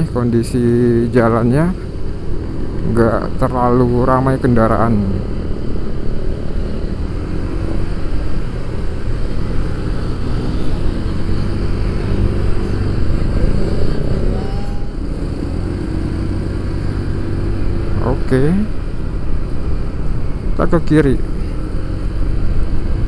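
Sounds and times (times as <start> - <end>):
wind and road noise: 0.0 - 23.0.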